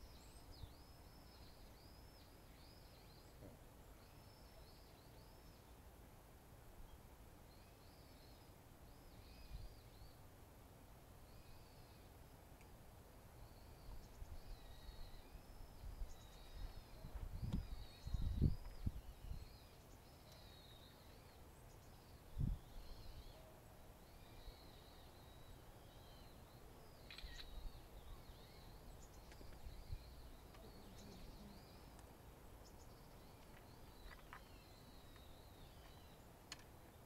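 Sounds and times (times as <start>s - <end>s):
distant birds chirping: 6.8s - 37.0s.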